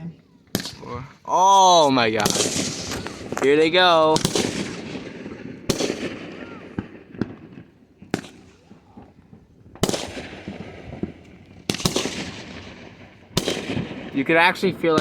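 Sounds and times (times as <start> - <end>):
fireworks exploding: 0.2 - 15.0
fireworks crackling: 0.5 - 15.0.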